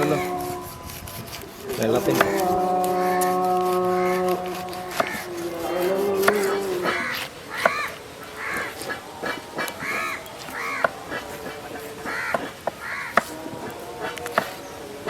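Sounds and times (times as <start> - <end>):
crow cawing: 0.0 - 15.0.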